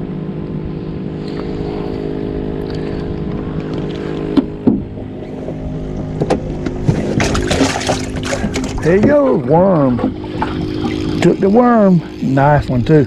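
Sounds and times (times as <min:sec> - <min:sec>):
electric trolling motor humming: 0:00.0 - 0:13.0.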